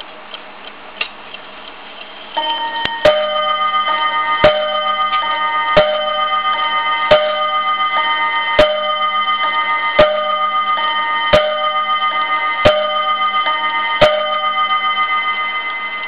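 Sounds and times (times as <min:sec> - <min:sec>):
clock ticking: 0:00.0 - 0:16.0
clock chime striking gong rods: 0:02.4 - 0:16.0.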